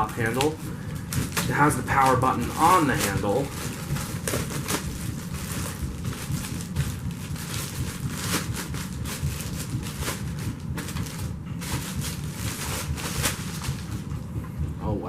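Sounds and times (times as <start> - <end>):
plastic packaging rustling: 0.0 - 14.1
steady low hum: 0.0 - 15.0
plastic parts knocking: 1.0 - 14.1.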